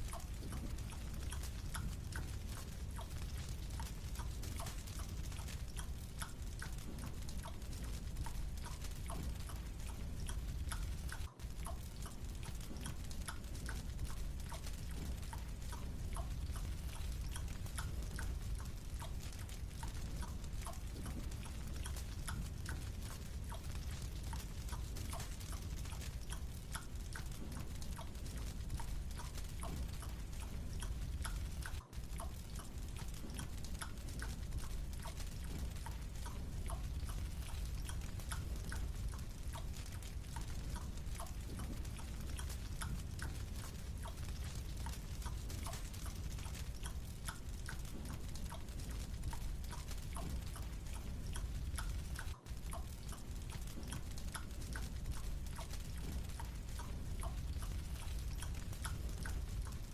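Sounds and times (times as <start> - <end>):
wet chewing clicks: 0.1 - 59.9.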